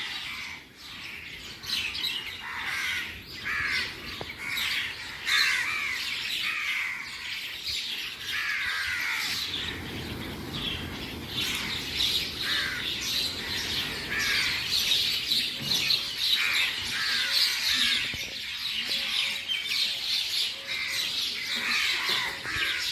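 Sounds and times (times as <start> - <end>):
flock of birds chirping: 0.0 - 22.9.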